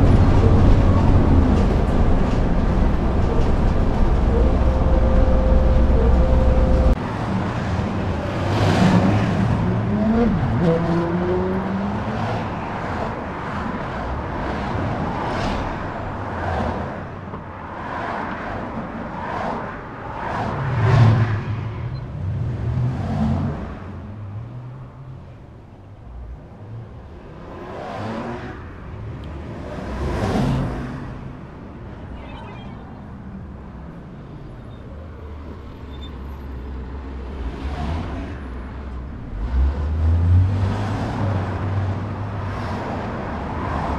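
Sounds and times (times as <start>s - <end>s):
cars passing: 0.0s - 43.9s.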